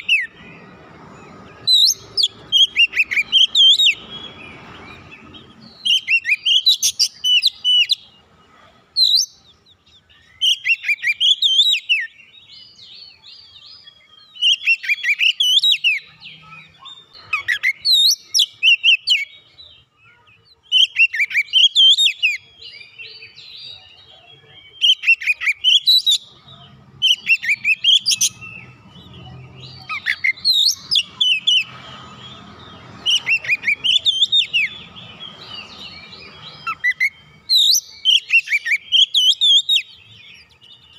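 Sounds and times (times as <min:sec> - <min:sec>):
songbird singing gliding notes: 0:00.0 - 0:40.9.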